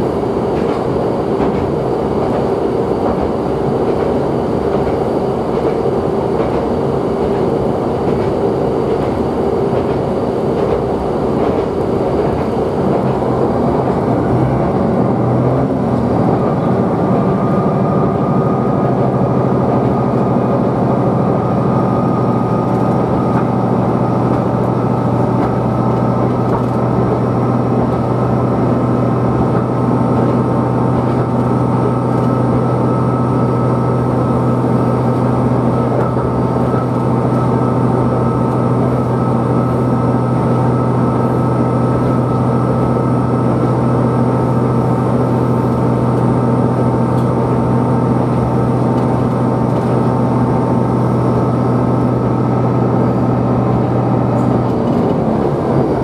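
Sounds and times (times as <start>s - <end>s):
diesel railcar engine drone: 0.0s - 56.0s
rail running noise: 0.0s - 56.0s.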